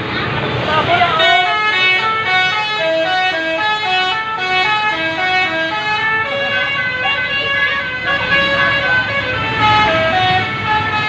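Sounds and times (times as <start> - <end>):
musical air horn tune: 1.2 - 11.0.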